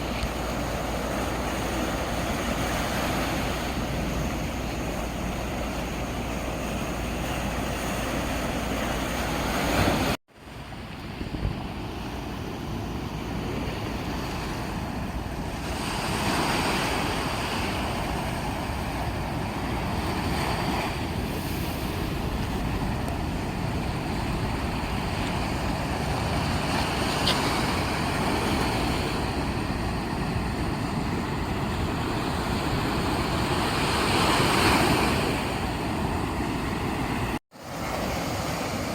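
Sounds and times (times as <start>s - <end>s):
wind buffeting microphone: 0.0s - 37.4s
sea waves breaking: 0.0s - 38.9s.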